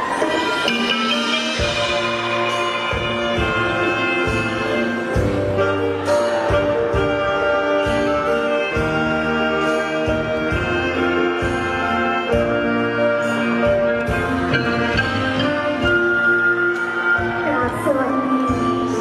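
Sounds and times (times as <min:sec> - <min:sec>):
band playing brass horns: 0:00.0 - 0:19.0
regular drum beat: 0:00.0 - 0:19.0.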